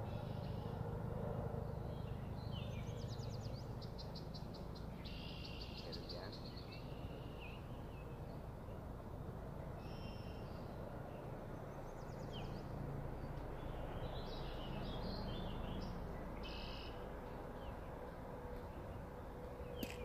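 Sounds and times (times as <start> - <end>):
birds chirping: 1.6 - 8.9, 9.8 - 20.0.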